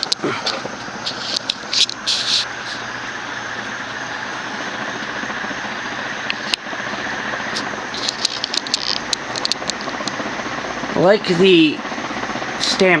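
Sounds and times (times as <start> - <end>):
fan blades rushing air: 0.0 - 13.0
low motor hum: 0.0 - 13.0.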